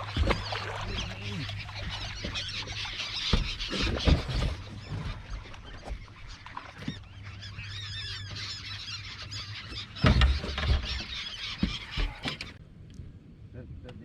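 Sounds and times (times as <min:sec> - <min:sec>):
gulls crying: 0:00.0 - 0:12.6.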